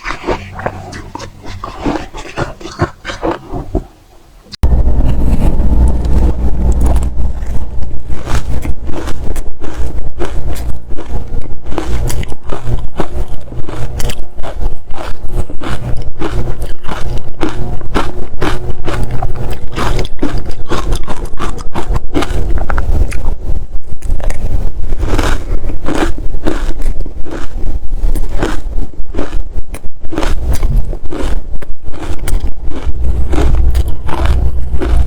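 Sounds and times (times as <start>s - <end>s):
steady low hum: 0.0s - 35.0s
ice being bitten and crunched: 5.9s - 35.0s.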